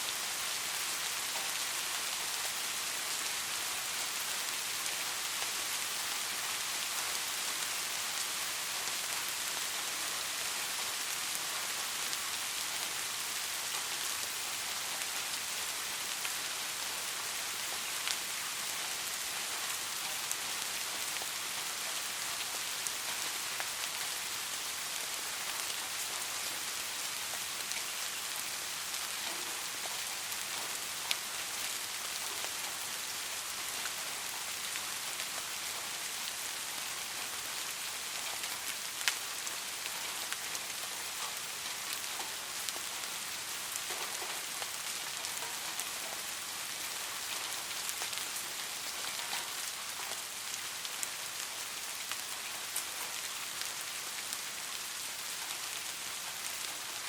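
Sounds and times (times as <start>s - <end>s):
light rain hiss: 0.0s - 57.0s.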